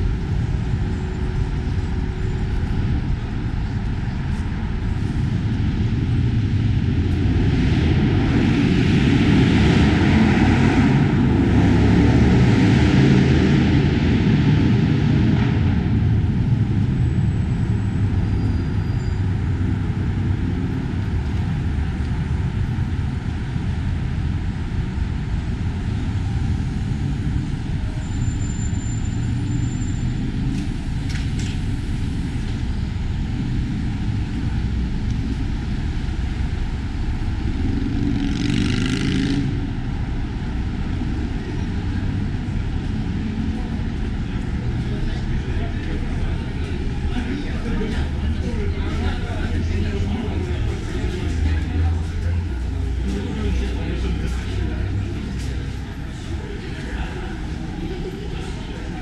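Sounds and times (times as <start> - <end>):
city street traffic rumble: 0.0 - 59.0.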